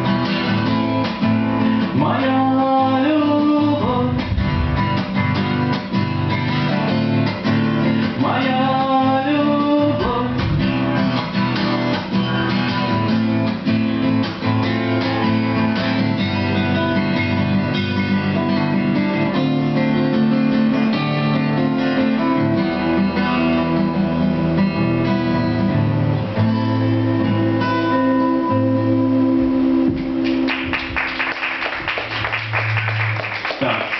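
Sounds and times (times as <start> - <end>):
strummed acoustic guitar chords: 0.0 - 31.2
picked guitar melody: 0.0 - 31.4.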